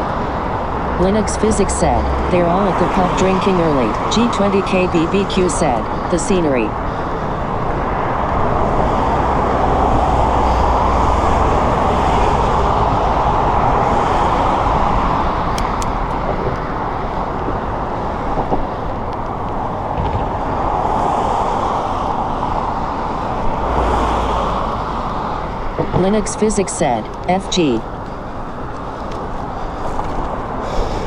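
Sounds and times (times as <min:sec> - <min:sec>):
wind buffeting microphone: 0:00.0 - 0:26.3
bicycle road noise: 0:00.0 - 0:31.0.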